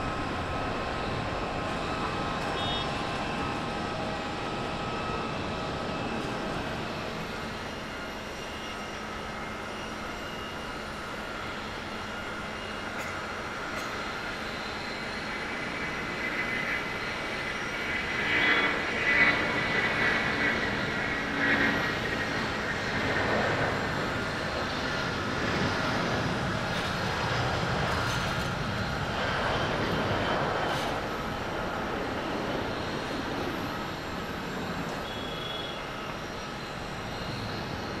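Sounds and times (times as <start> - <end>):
jet engines at takeoff: 0.0 - 38.0.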